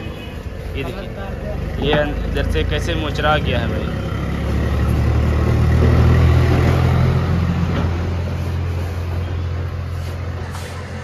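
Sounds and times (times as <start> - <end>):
engine running: 0.6 - 11.0.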